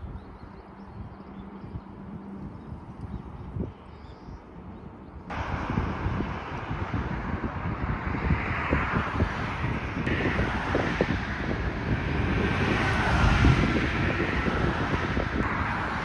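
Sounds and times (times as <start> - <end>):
passing traffic: 0.0 - 16.0
wind buffeting microphone: 0.0 - 16.0.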